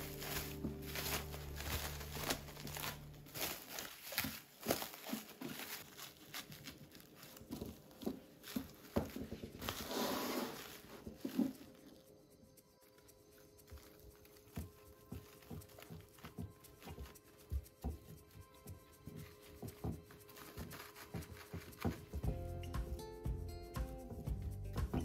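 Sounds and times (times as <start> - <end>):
background music: 0.0 - 4.2, 7.0 - 25.0
crinkling and rustling: 0.0 - 22.4.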